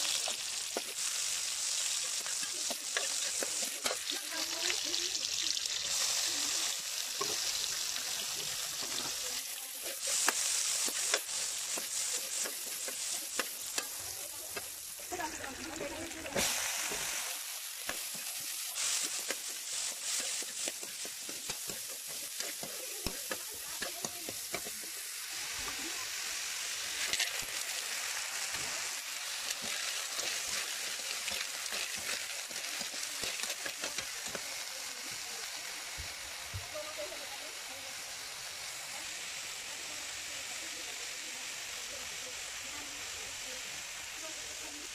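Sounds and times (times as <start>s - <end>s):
food sizzling in a wok: 0.0s - 44.9s.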